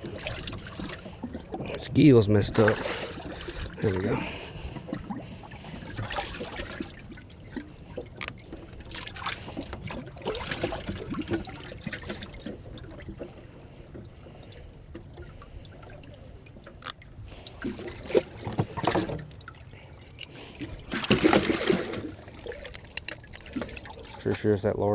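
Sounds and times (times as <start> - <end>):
water splashing and trickling: 0.0 - 24.9.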